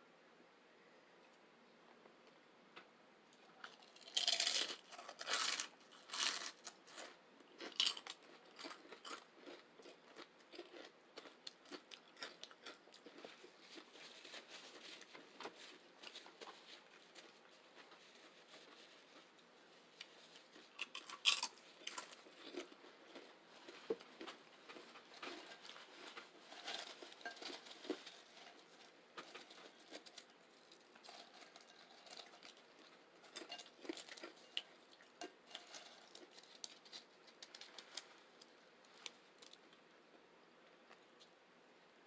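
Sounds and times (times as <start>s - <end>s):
crunching and chewing chips: 3.4s - 39.8s.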